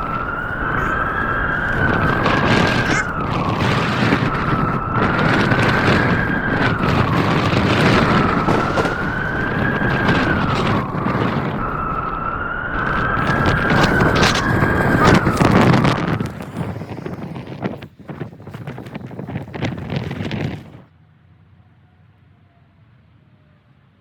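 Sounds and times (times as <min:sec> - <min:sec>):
blizzard wind howling: 0:00.0 - 0:20.9.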